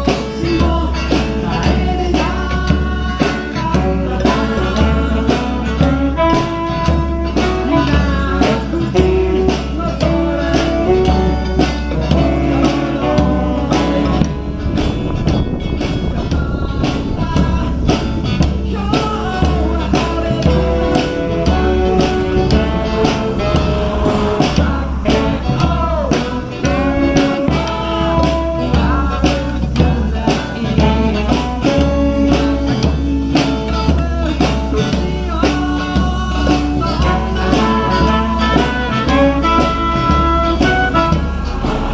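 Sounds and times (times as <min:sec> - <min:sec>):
live blues band instrumental: 0:00.0 - 0:41.9.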